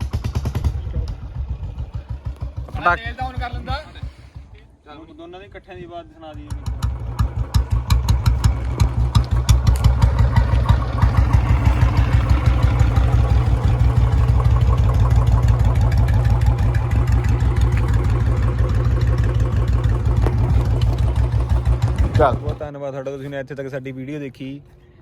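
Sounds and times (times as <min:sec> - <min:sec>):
motorcycle engines thumping: 0:00.0 - 0:04.8, 0:05.6 - 0:22.7.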